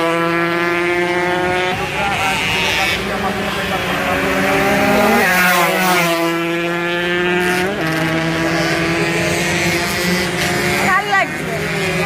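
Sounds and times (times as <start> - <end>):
racing motorcycle engines high revs: 0.0 - 12.0.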